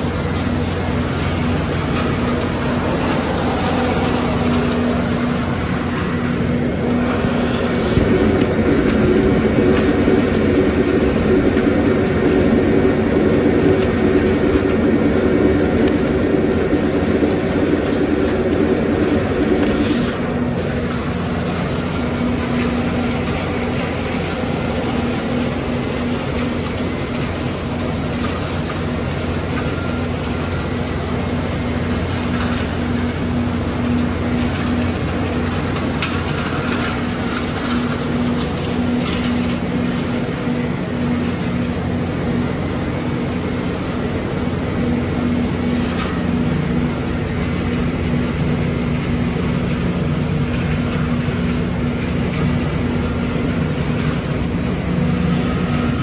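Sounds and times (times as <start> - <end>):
machine drone with low hum: 0.0 - 56.0.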